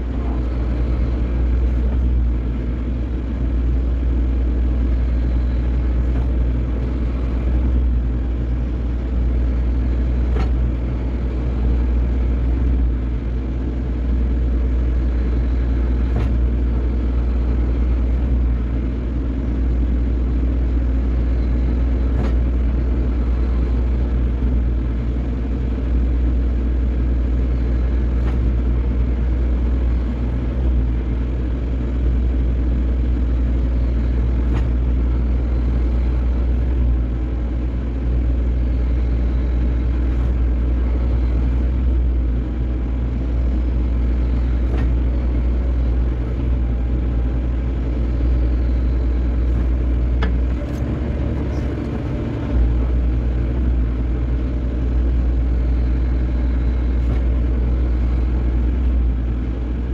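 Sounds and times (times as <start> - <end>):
excavator diesel engine humming: 0.0 - 59.9.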